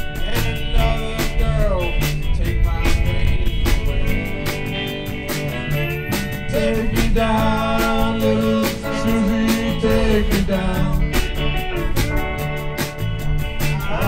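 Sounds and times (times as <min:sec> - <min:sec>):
bass guitar: 0:00.0 - 0:14.0
drum kit beat: 0:00.0 - 0:14.0
electric guitars: 0:00.0 - 0:14.0.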